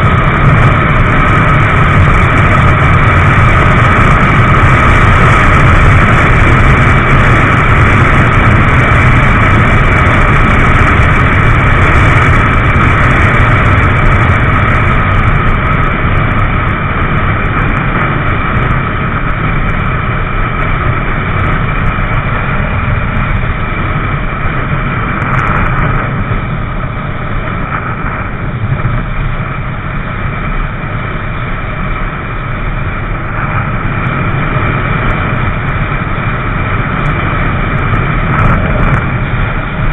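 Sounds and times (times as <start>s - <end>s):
high whine: 0.0s - 39.9s
motorcycle engine running: 0.0s - 39.9s
wind noise on microphone: 0.0s - 39.9s.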